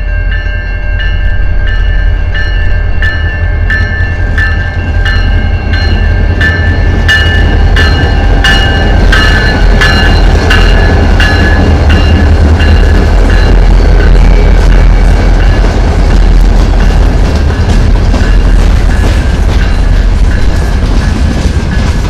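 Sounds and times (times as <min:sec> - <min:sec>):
diesel locomotive engines rumbling: 0:00.0 - 0:22.0
locomotive bell ringing: 0:00.0 - 0:22.0.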